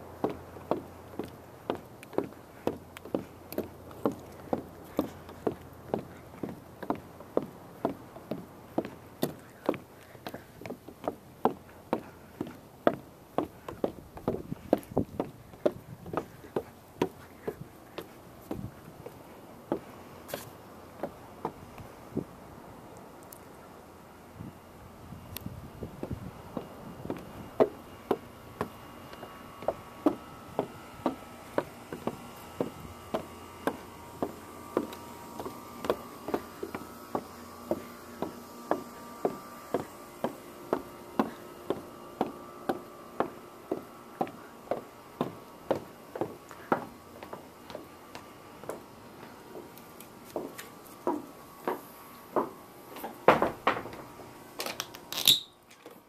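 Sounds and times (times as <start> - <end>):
footsteps on wooden boards: 0.0 - 22.3, 25.8 - 55.0.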